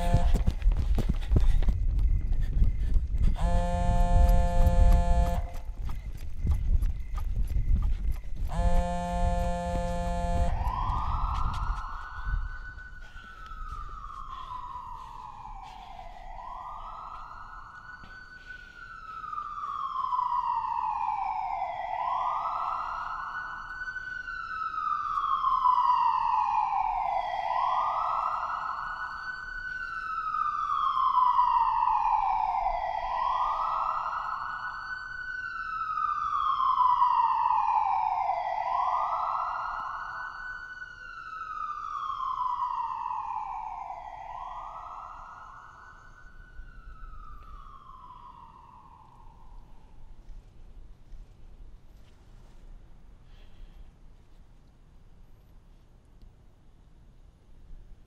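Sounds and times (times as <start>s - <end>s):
emergency siren wailing: 0.0s - 50.6s.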